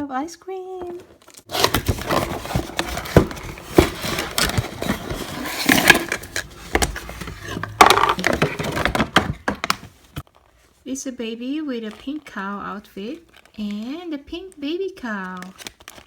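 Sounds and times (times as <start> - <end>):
cardboard and plastic crinkling: 0.8 - 10.8, 11.7 - 16.0.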